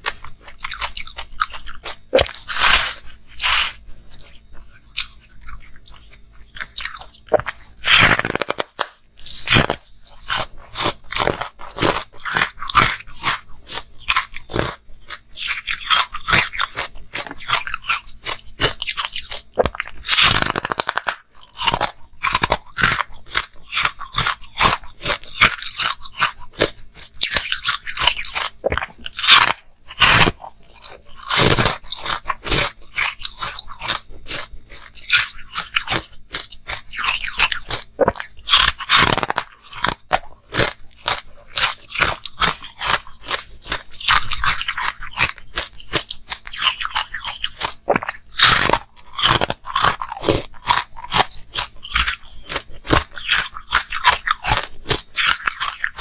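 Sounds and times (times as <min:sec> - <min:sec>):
crisp crunchy chewing: 0:00.0 - 0:56.0.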